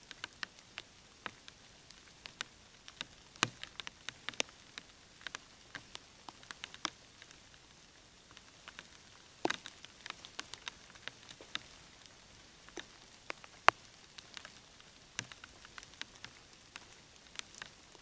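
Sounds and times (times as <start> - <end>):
faint steady hiss: 0.0 - 18.0
light pattering ticks: 0.0 - 18.0.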